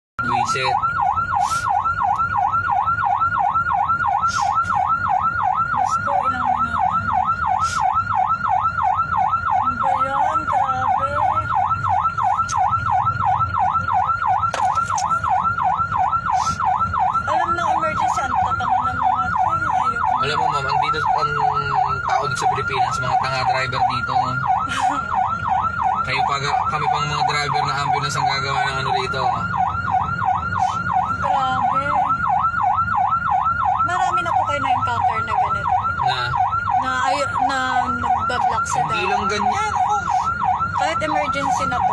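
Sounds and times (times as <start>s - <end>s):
faint traffic rumble: 0.2s - 41.9s
siren yelping: 0.2s - 41.9s.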